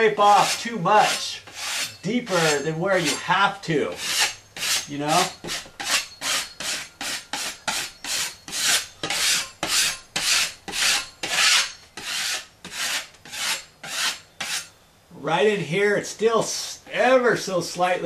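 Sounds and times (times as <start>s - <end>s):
drywall knife scraping: 0.0s - 14.7s.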